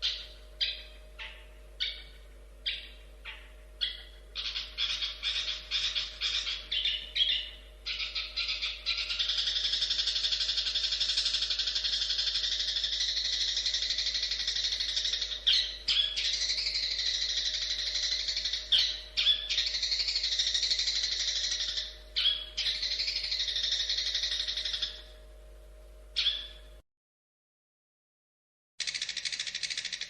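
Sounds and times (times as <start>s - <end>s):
shrike chattering song: 0.0s - 25.1s, 28.8s - 30.0s.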